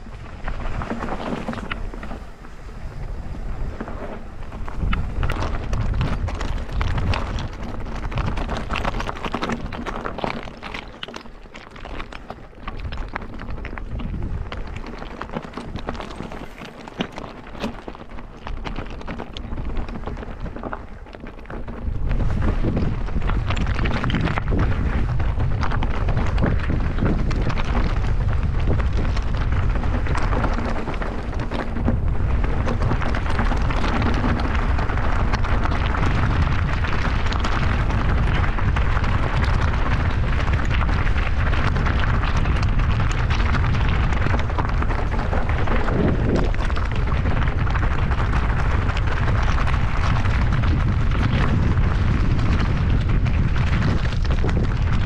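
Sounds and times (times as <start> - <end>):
bike rattling over rough trail: 0.0 - 55.0
wind noise on microphone: 0.0 - 55.0.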